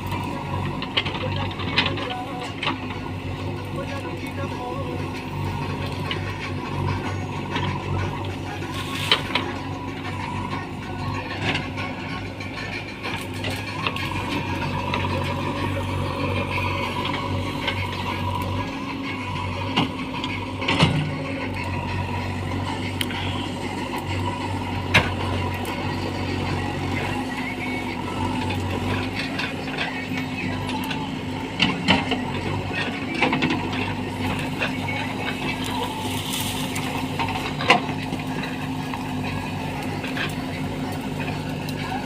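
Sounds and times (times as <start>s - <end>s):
backhoe diesel engine running: 0.0s - 42.0s.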